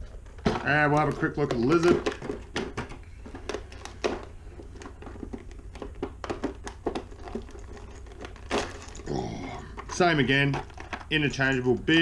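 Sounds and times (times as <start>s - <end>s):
packaging crinkling: 0.0s - 11.5s.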